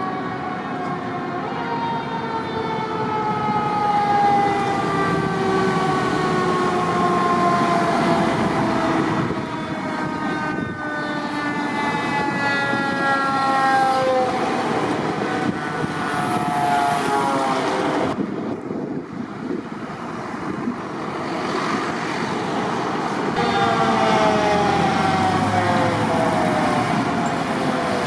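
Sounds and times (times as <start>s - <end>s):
fire truck siren wailing: 0.0s - 28.0s
traffic: 0.0s - 28.0s
truck engines rumbling: 0.0s - 28.0s.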